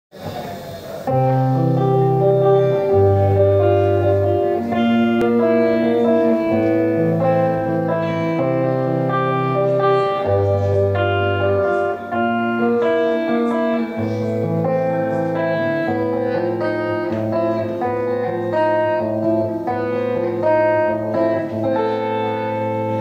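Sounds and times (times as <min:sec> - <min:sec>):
live rock band playing: 0:01.1 - 0:23.0.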